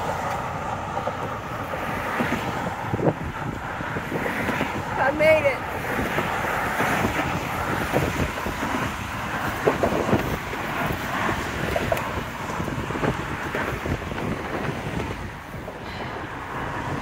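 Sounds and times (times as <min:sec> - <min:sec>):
highway traffic: 0:00.0 - 0:17.0
wind buffeting microphone: 0:00.0 - 0:17.0.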